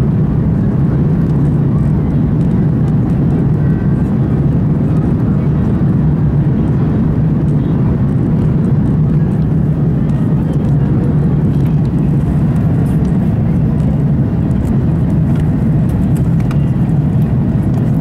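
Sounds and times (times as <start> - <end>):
deep hum: 0.0 - 18.0
jet engines roaring in cabin: 0.0 - 18.0.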